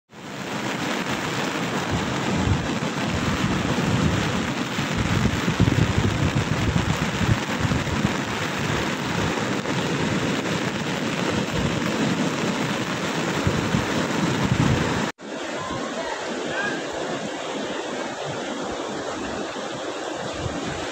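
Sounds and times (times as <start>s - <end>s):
heavy surf breaking: 0.2s - 20.9s
wind buffeting microphone: 0.4s - 15.1s, 17.0s - 20.9s.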